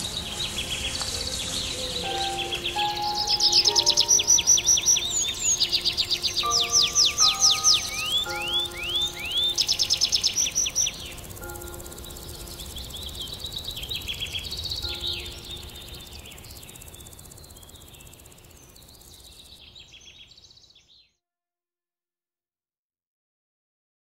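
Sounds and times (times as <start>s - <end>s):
birds singing and chirping: 0.0s - 20.9s.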